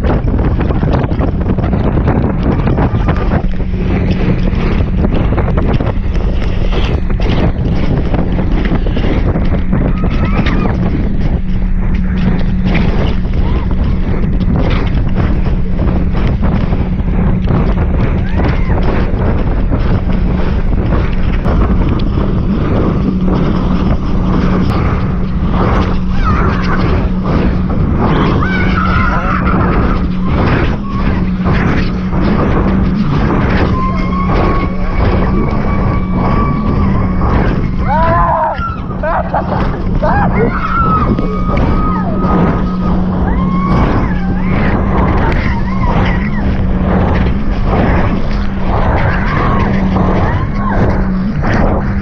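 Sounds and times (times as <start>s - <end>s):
steady low hum: 0.0s - 52.0s
wind buffeting microphone: 0.0s - 52.0s.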